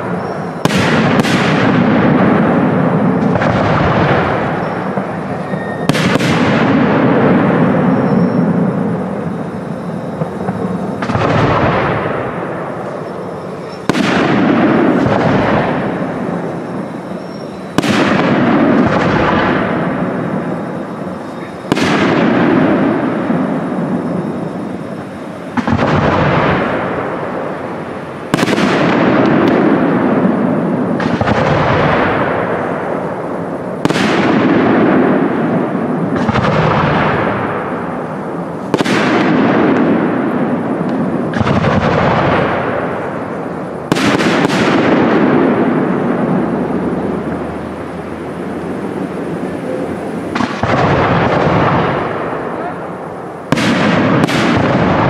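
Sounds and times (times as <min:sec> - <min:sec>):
firework shells bursting: 0:00.0 - 0:55.0.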